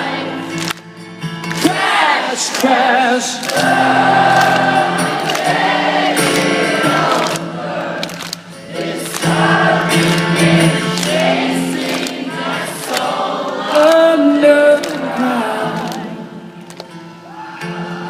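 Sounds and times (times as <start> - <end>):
crowd singing held line: 0.0 - 0.7, 1.5 - 18.0
live rock music: 0.0 - 18.0.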